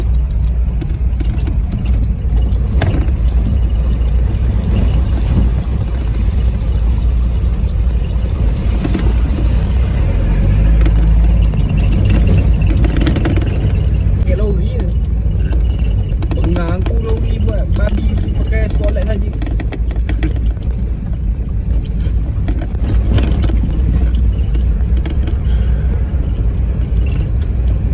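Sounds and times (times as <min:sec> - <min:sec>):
knocks and rattles: 0:00.0 - 0:27.9
vehicle engine rumbling: 0:00.0 - 0:27.9.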